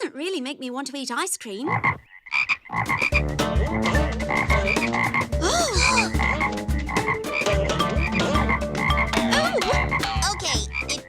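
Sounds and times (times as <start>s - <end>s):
cartoon frog-like croaking: 1.7s - 11.0s.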